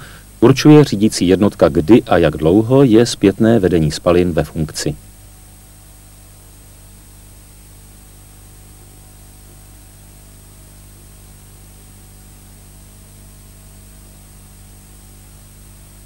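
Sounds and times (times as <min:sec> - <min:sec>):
background hiss: 0:00.0 - 0:16.0
low electrical hum: 0:00.0 - 0:16.0.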